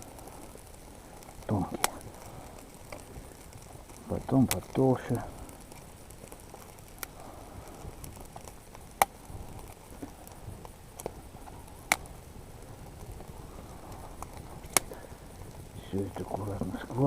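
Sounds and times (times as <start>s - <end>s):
dry twigs cracking: 0.0s - 17.0s
low steady hiss: 0.0s - 17.0s.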